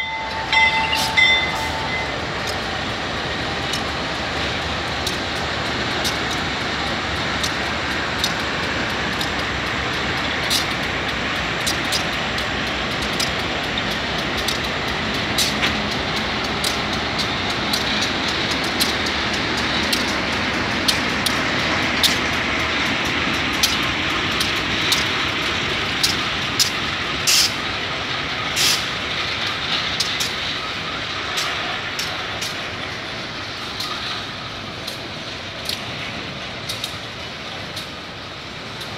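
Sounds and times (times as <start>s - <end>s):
diesel locomotives passing: 0.0s - 38.9s
freight wagons rumbling on rails: 0.0s - 38.9s
train clicks and clanks: 0.0s - 38.9s.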